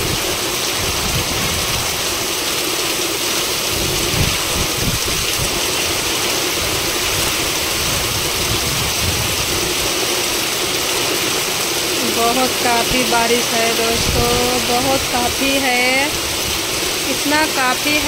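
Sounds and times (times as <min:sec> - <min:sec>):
heavy rain on metal roofs: 0:00.0 - 0:18.0
strong wind gusts: 0:00.0 - 0:18.0.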